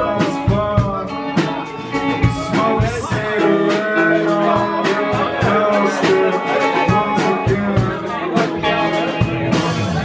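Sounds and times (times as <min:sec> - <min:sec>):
drum beat: 0:00.0 - 0:10.0
electric guitars: 0:00.0 - 0:10.0
person singing: 0:00.0 - 0:10.0.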